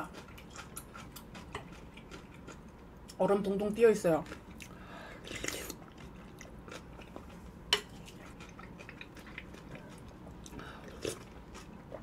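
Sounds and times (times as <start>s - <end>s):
quiet chewing: 0.0s - 3.2s, 4.2s - 12.0s.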